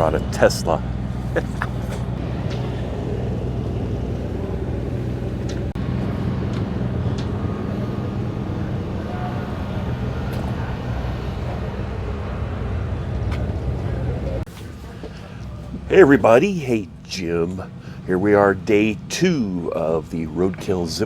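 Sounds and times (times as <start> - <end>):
vehicle hum and rumble: 0.0 - 21.0.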